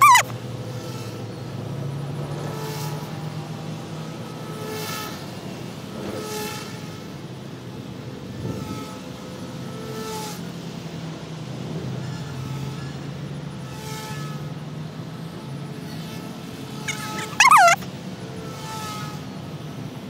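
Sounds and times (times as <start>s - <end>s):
rc helicopter buzzing drone: 0.0s - 10.5s, 14.2s - 20.0s.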